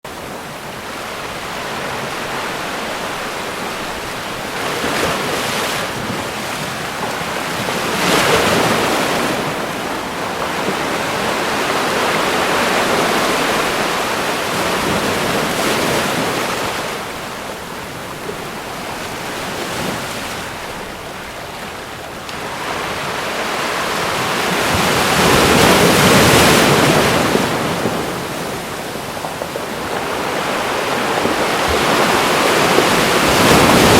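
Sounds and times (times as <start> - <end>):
ocean waves breaking on shore: 0.0 - 33.9.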